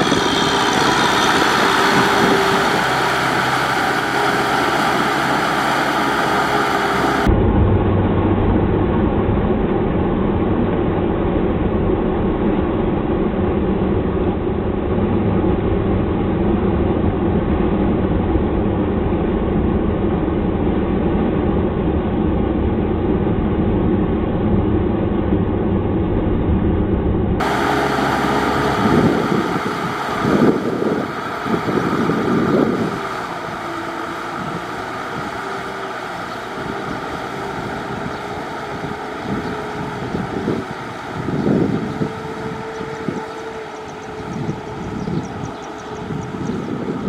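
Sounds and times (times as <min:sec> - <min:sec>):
tractor engine running hard: 0:00.0 - 0:25.4, 0:27.4 - 0:47.0
engine hum with surges: 0:00.0 - 0:47.0.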